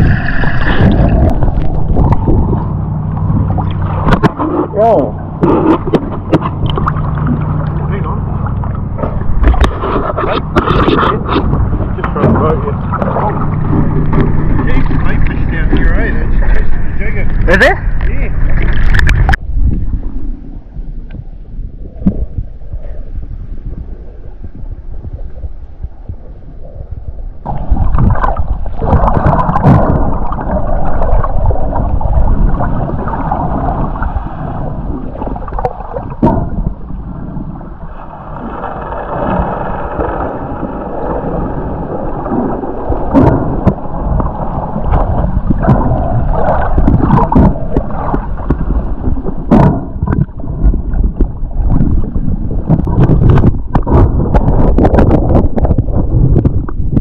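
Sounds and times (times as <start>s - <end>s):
water rushing underwater: 0.0s - 57.0s.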